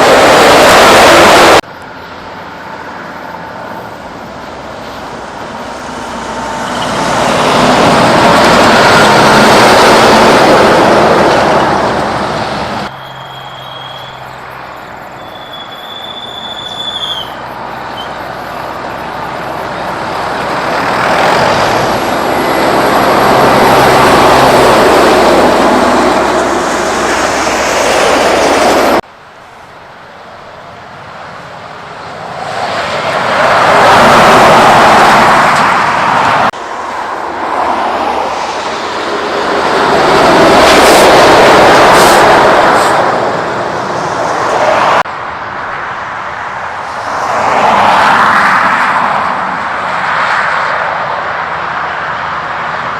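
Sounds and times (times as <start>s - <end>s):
trucks passing by: 0.0s - 52.9s.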